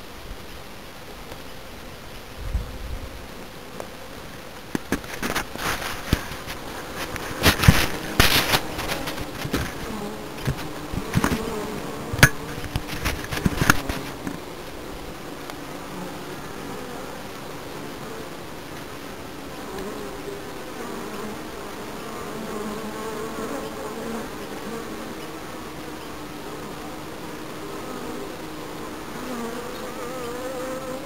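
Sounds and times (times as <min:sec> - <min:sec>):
bees buzzing: 0:00.1 - 0:31.0.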